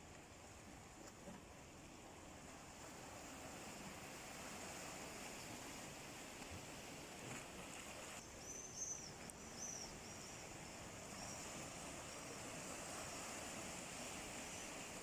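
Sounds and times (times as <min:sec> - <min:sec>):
sea waves washing: 0:00.0 - 0:15.0.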